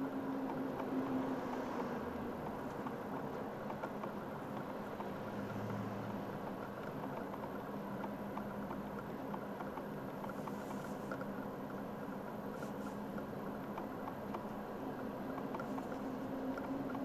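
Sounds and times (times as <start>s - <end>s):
car engine and road noise: 0.0s - 17.0s
faint ticks: 0.3s - 17.0s.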